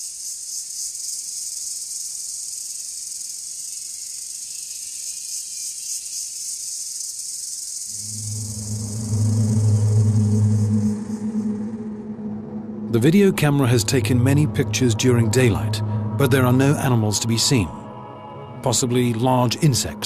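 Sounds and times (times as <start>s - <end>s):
shrill insect chorus: 0.0s - 20.0s.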